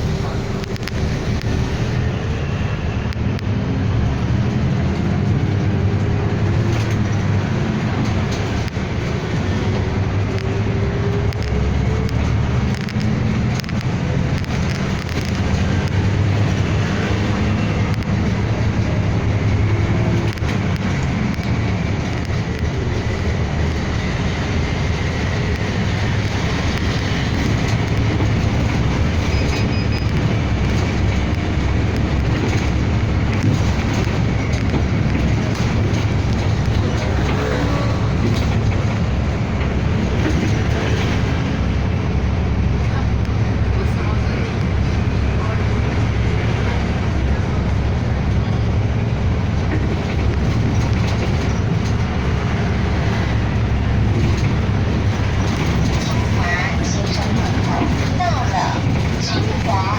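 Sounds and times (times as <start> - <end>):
bus engine and tyre noise: 0.0 - 59.9.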